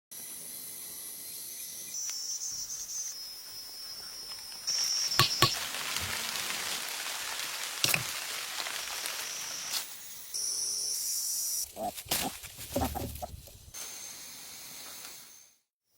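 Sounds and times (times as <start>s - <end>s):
insects shrilling: 1.9s - 15.4s.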